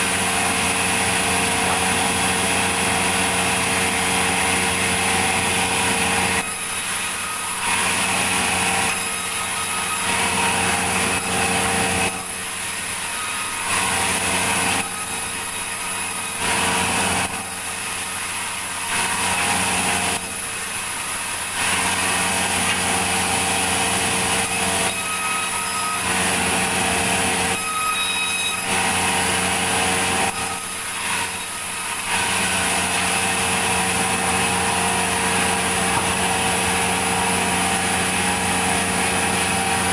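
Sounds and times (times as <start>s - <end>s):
saw cutting a log: 0.0s - 39.9s.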